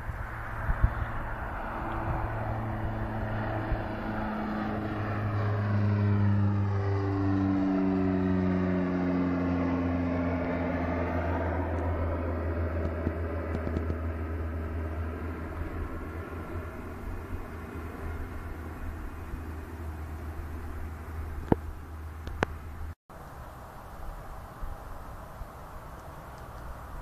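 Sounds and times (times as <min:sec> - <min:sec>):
turboprop airliner flying overhead: 0:00.0 - 0:27.0.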